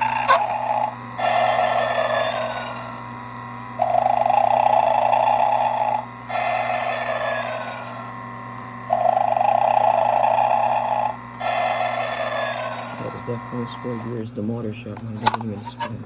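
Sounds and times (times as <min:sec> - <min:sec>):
recorded snoring through small speaker: 0:00.0 - 0:14.2
steady low hum: 0:00.0 - 0:16.0.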